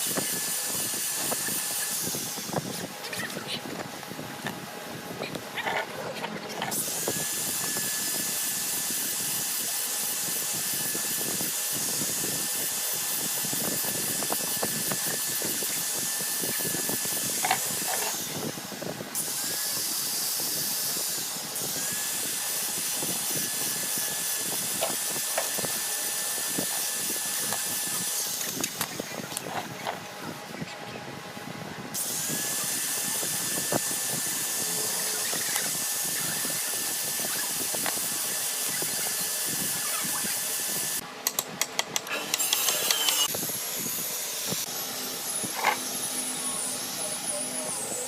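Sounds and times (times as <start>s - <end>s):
high-speed power tool whining: 0.0s - 30.6s, 31.9s - 48.0s.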